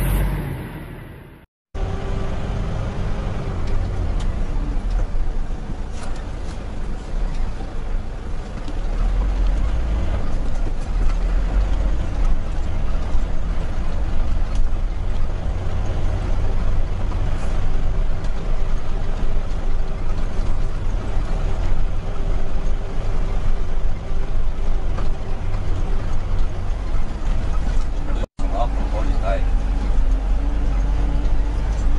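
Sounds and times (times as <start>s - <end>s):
road noise: 0.0s - 31.9s
truck diesel engine rumbling: 0.0s - 31.9s.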